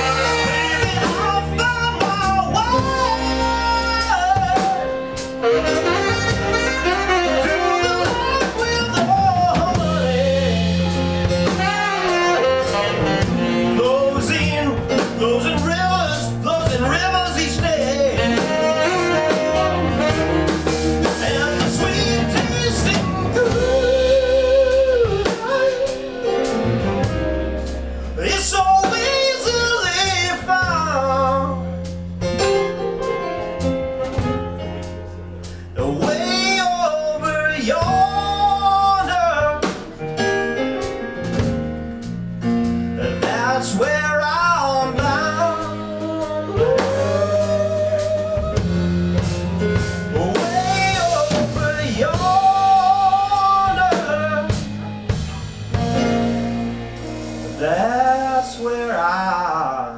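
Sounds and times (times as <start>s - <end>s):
saxophone solo: 0.0s - 37.3s, 44.5s - 57.6s
live band playing: 0.0s - 59.9s.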